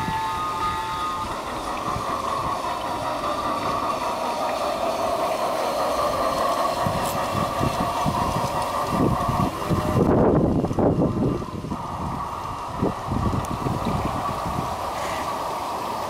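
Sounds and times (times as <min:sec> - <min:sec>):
wind buffeting microphone: 0:00.0 - 0:15.4
model train motor whine: 0:00.0 - 0:16.0.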